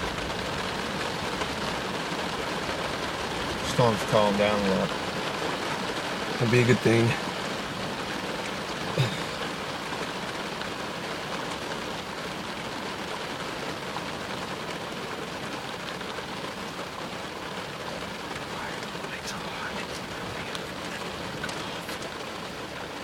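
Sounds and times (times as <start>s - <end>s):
rain falling on a car: 0.0s - 23.0s.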